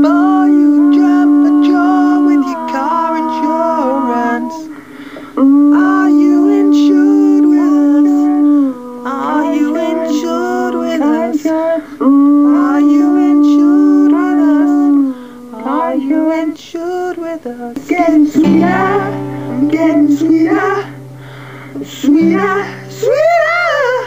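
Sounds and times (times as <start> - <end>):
high singing voice: 0.0 - 24.0.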